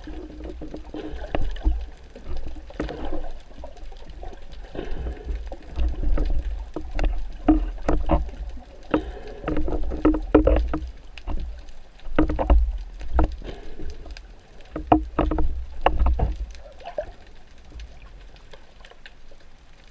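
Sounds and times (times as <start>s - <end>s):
underwater clicks and knocks: 0.0s - 19.2s
low rumble of water: 0.0s - 19.9s.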